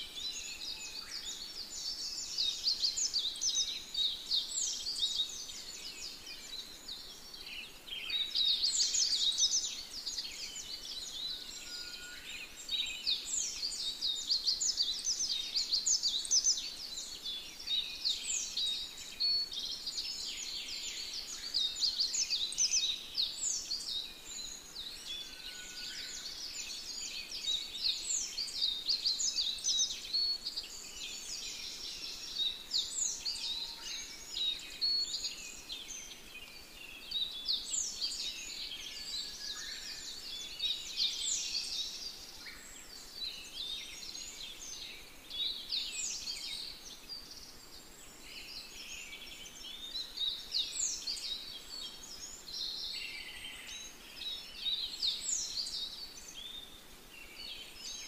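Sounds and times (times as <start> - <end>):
small birds chirping and twittering: 0.0 - 58.0.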